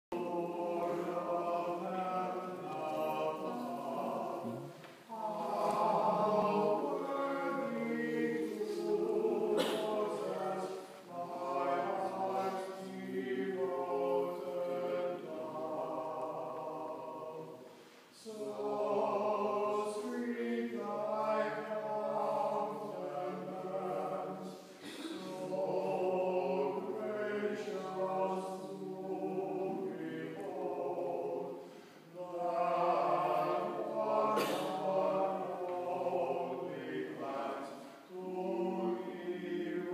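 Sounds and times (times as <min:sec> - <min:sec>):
choir singing chant: 0:00.1 - 0:39.9.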